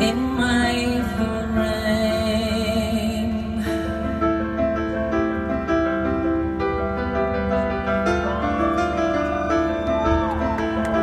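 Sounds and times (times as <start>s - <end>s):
piano playing chords: 0.0s - 11.0s.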